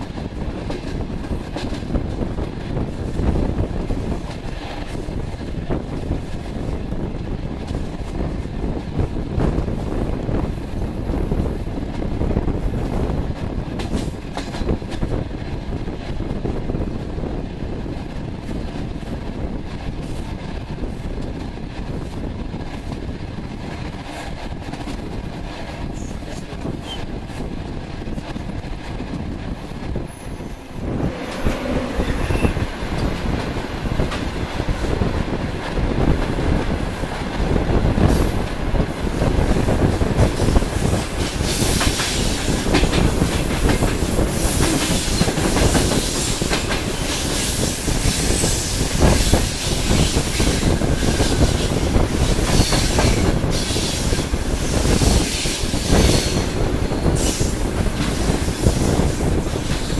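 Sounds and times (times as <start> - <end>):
freight train passing: 0.0 - 59.9
train rumble and wheel clatter: 0.0 - 59.9.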